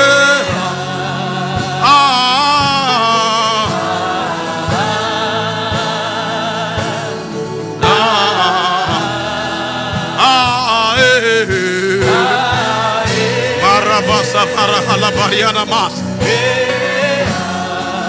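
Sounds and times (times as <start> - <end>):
backing music with steady beat: 0.0 - 18.0
person singing with vibrato: 0.0 - 18.0.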